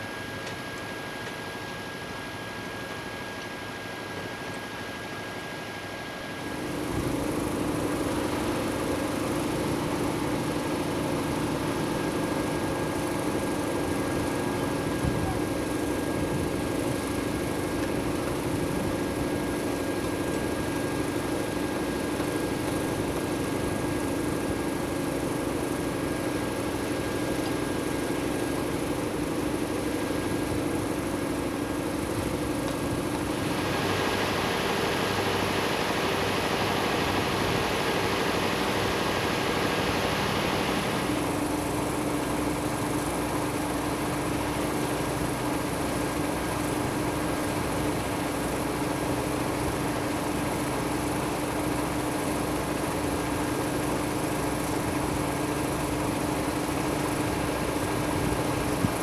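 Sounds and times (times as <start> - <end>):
machine hum: 6.1 - 59.0.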